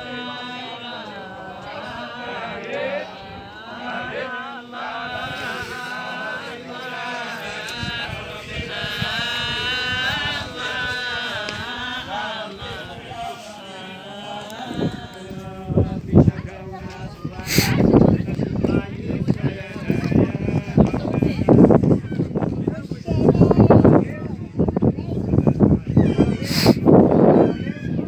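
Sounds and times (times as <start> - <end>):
melodic religious chanting: 0.0 - 22.5.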